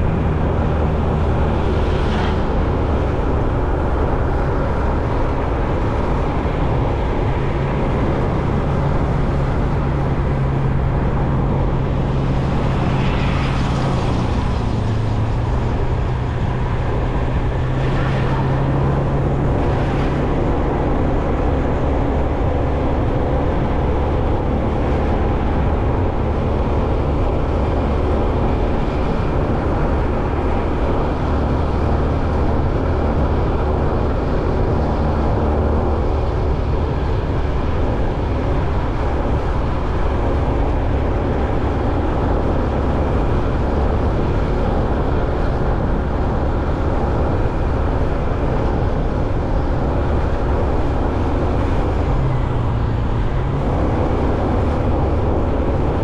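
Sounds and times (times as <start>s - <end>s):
road and wind rumble: 0.0s - 56.0s
vehicle engine hum: 0.0s - 56.0s.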